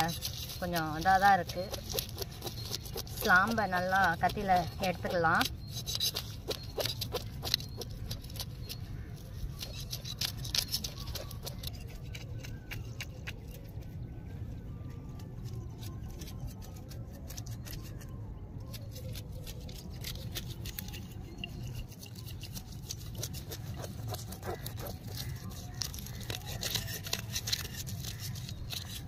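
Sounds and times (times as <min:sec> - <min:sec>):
knife scraping fish scales: 0:00.0 - 0:13.7, 0:18.6 - 0:29.0.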